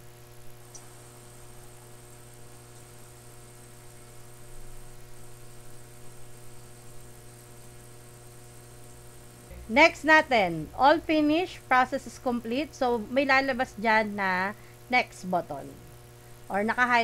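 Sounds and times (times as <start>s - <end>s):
light hiss: 0.0s - 17.0s
low electrical hum: 0.0s - 17.0s.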